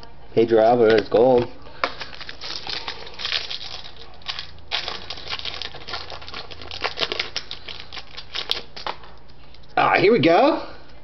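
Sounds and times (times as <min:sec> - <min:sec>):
trading cards rustling and clicking: 0:00.8 - 0:09.8.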